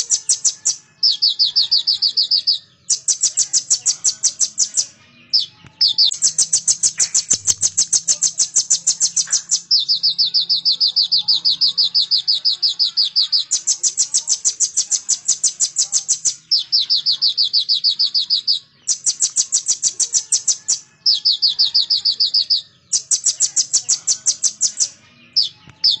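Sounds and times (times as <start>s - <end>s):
bird singing fast trills: 0.0s - 26.0s.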